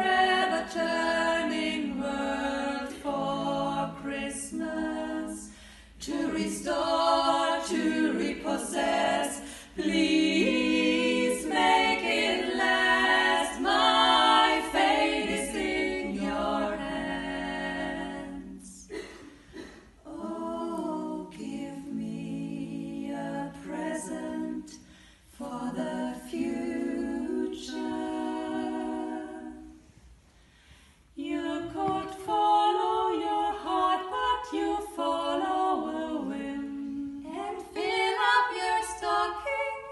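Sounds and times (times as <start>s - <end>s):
female vocal quartet singing a cappella: 0.0s - 39.9s.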